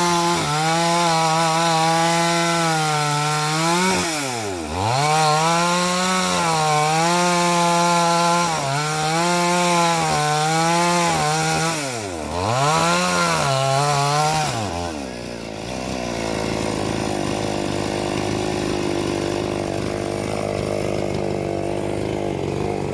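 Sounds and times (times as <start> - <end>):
chainsaw cutting log: 0.0 - 22.9.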